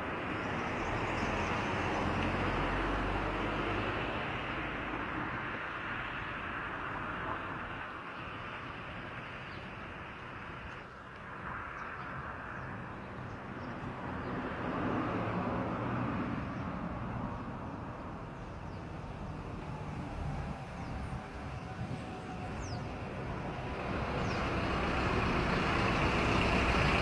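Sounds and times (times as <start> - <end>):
outdoor background rumble with hiss: 0.0 - 27.0.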